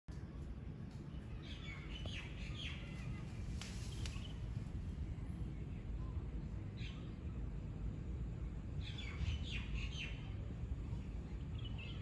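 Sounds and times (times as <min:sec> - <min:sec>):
low background rumble: 0:00.1 - 0:12.0.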